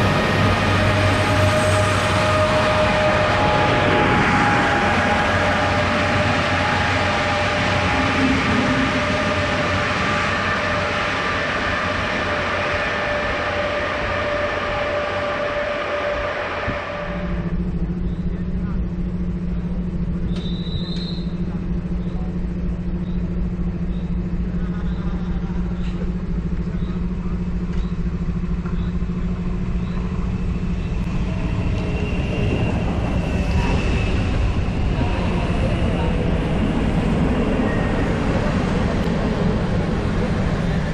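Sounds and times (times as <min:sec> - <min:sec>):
steady whine of railcar: 0:00.0 - 0:40.9
train wheels rumbling on rails: 0:00.0 - 0:40.9.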